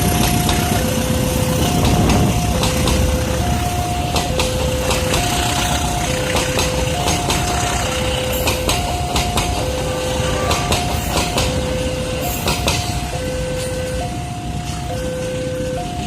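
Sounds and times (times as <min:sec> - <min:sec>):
train rumbling with wheel clicks: 0:00.0 - 0:16.0
two-tone electronic warning signal: 0:00.0 - 0:16.0.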